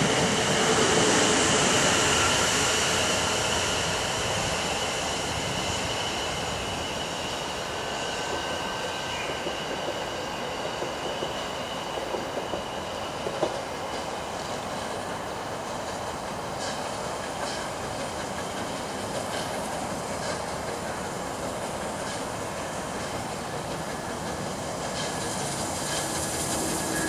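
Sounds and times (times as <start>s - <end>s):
train rumbling over rails: 0.0s - 27.0s.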